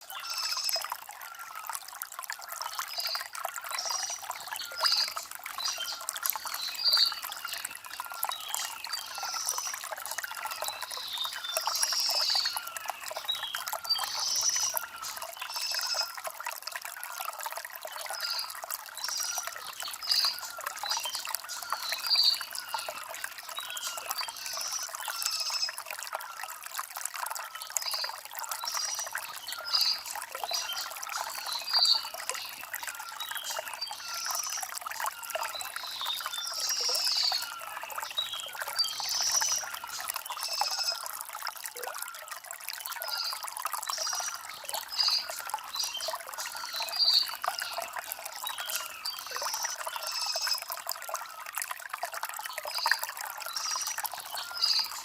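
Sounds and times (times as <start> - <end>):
stream babbling over stones: 0.0 - 55.0.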